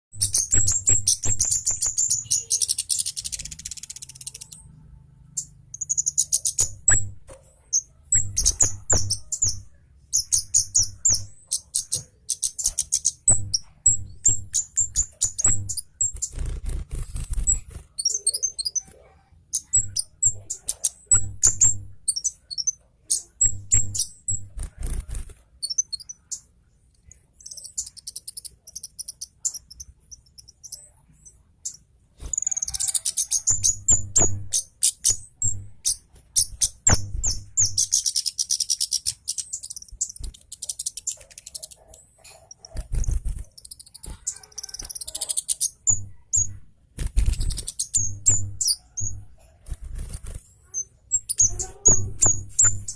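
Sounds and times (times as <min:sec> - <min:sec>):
bird chipping and trilling: 0:00.1 - 0:52.9.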